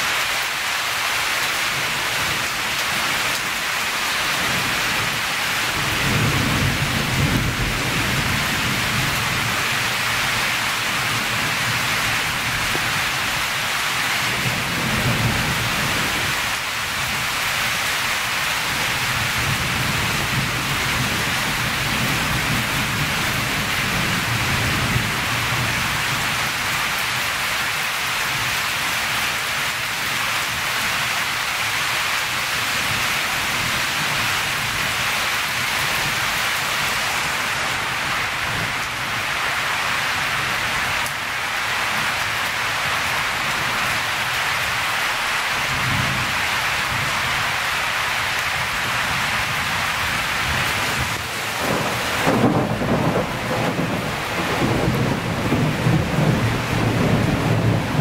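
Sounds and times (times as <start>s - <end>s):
heavy rain falling on forest: 0.0s - 58.0s.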